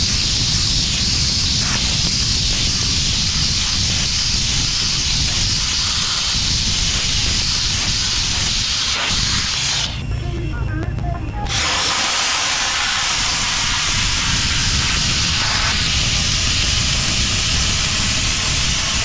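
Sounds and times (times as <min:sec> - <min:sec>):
sandblasting hiss on steel: 0:00.0 - 0:10.0, 0:11.4 - 0:19.0.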